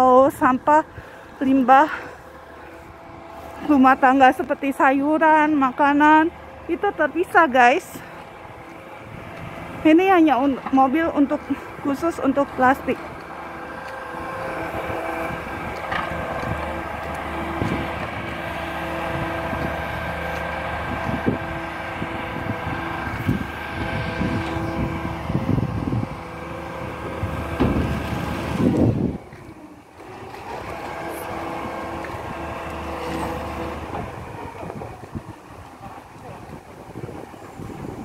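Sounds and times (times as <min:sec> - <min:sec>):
machine humming: 0:00.0 - 0:38.0.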